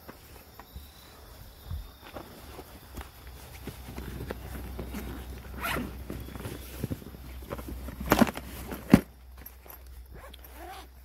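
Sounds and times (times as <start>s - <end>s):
fishing gear rustling and clicking: 1.5s - 11.0s.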